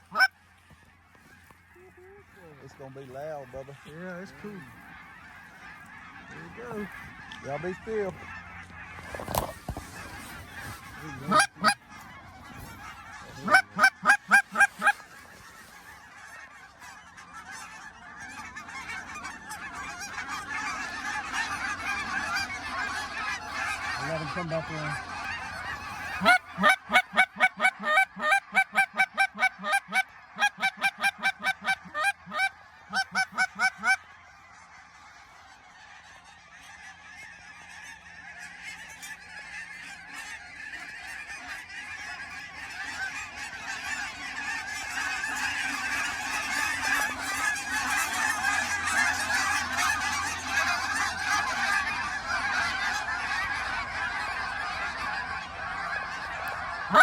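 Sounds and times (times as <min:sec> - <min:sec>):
goose call honks: 0:00.0 - 0:00.3, 0:01.6 - 0:57.0
flock of geese honking: 0:00.0 - 0:57.0.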